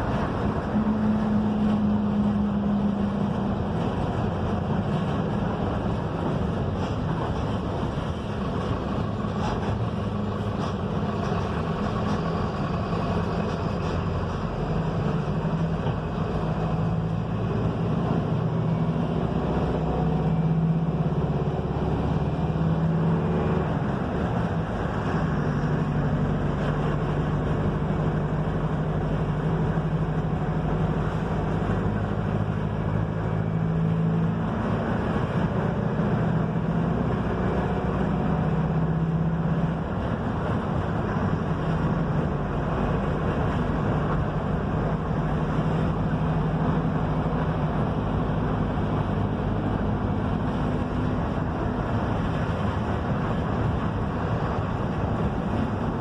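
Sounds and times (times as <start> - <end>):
bus engine running: 0.0 - 56.0
road and tyre rush: 0.0 - 56.0.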